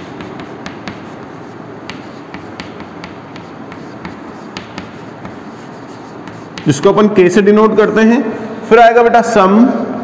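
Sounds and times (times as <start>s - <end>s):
chalk tapping and scratching: 0.0s - 8.2s.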